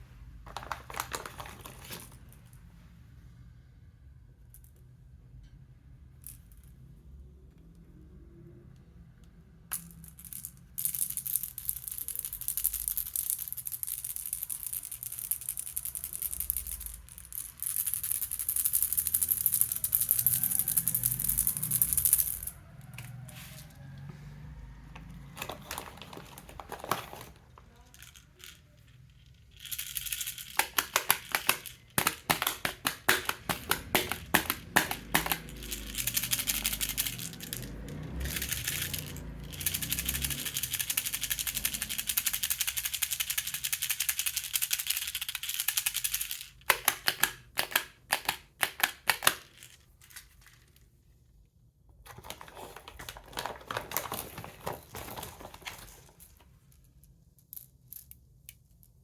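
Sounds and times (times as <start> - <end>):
toy rattle shaken: 0.5 - 2.6, 9.7 - 23.6, 25.4 - 50.8, 52.1 - 59.0.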